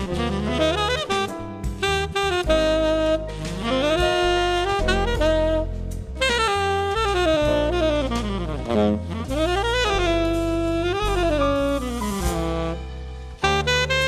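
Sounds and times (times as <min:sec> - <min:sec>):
bass line: 0:00.0 - 0:14.0
saxophone melody: 0:00.0 - 0:14.0.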